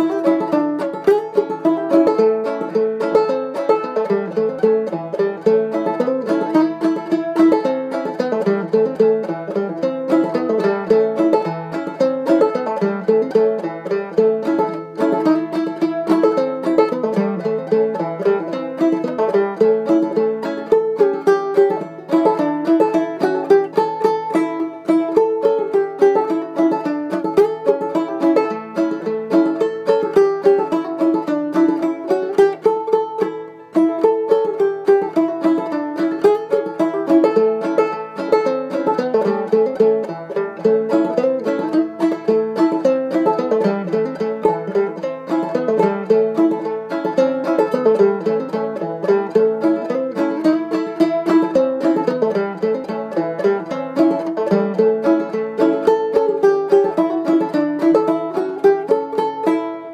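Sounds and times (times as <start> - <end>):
banjo playing a fiddle tune: 0.0 - 59.9.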